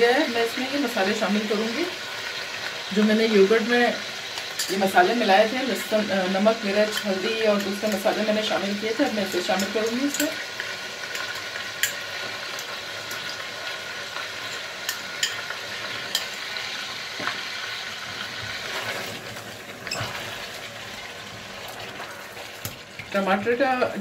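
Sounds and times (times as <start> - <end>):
chicken sizzling in hot fat: 0.0 - 24.0.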